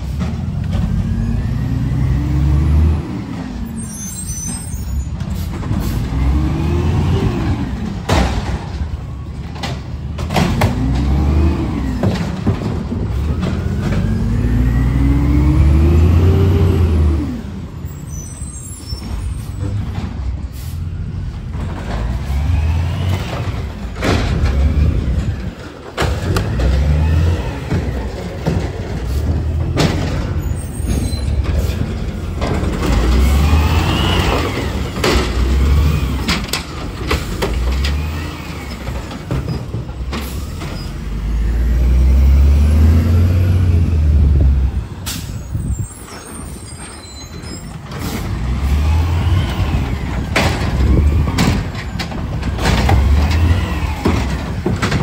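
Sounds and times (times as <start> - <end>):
garbage truck engine revving: 0.0 - 3.8, 5.2 - 9.1, 9.9 - 18.0, 19.8 - 55.0.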